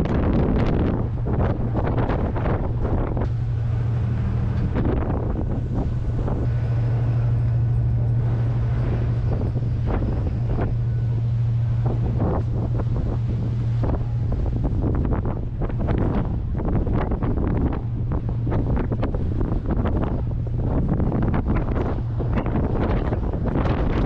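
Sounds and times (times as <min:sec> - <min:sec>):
ferry engines droning: 0:00.0 - 0:24.0
wind buffeting microphone: 0:00.0 - 0:24.0.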